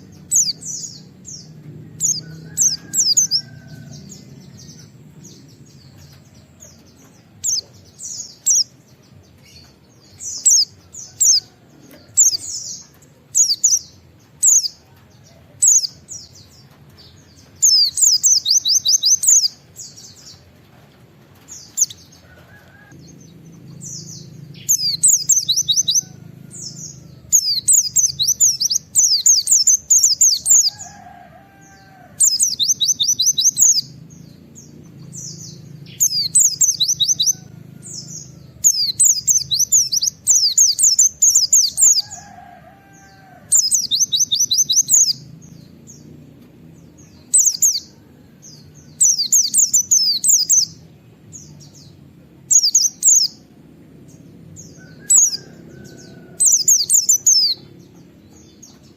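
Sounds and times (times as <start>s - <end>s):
white-eye bird singing: 0.0s - 20.5s, 21.4s - 58.9s.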